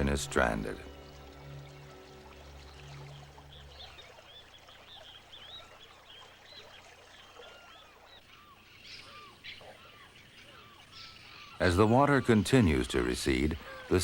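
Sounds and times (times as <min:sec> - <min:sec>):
birds chirping and whistling: 0:00.8 - 0:14.0.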